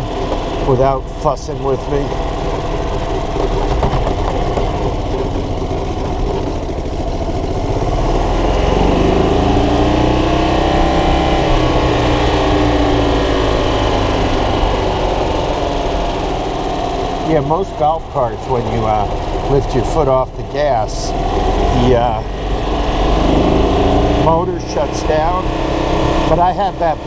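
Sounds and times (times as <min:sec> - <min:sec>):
golf cart engine running: 0:00.0 - 0:27.0.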